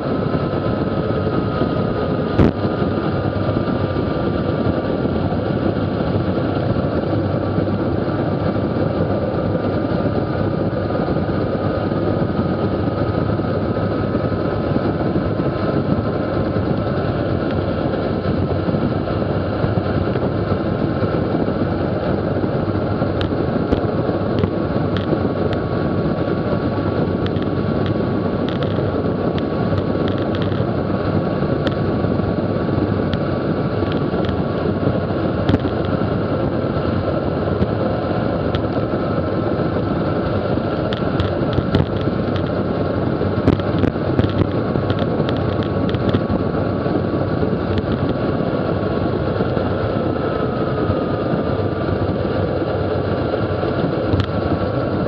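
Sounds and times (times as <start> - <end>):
faint steady whine: 0.0 - 55.0
wind rushing on microphone: 0.0 - 55.0.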